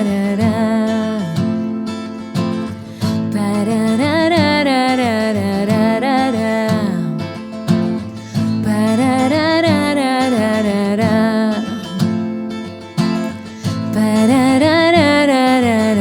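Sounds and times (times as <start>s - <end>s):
woman singing wordless melody: 0.0s - 2.3s, 3.0s - 16.0s
acoustic guitar playing: 0.0s - 16.0s.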